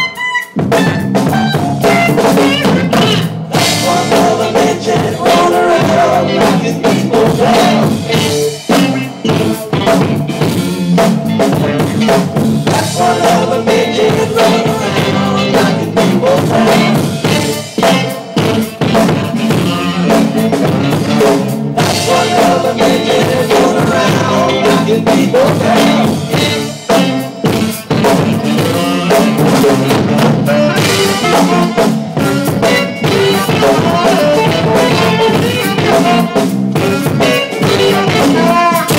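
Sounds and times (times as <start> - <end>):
drum kit beat: 0.0 - 38.9
rock band playing instrumental: 0.0 - 38.9.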